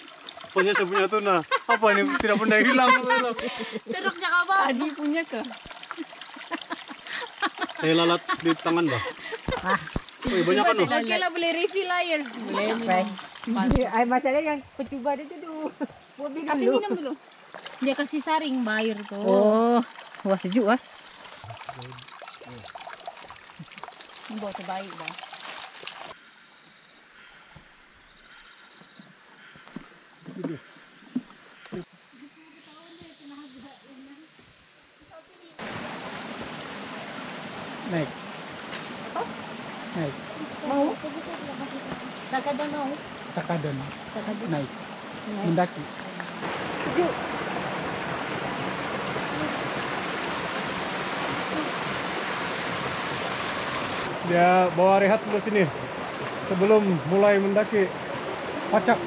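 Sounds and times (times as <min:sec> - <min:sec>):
running water rushing: 0:00.0 - 0:26.2, 0:35.5 - 0:59.0
insects droning: 0:00.0 - 0:59.0.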